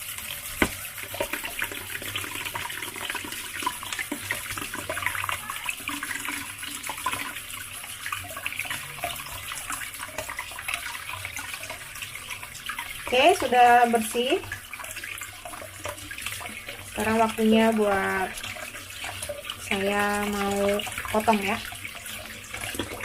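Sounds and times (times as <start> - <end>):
tap water running into sink: 0.0 - 23.0.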